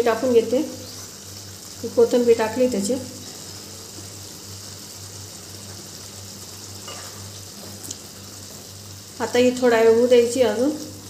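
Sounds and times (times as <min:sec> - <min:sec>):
broth bubbling with soft hiss: 0:00.0 - 0:09.4.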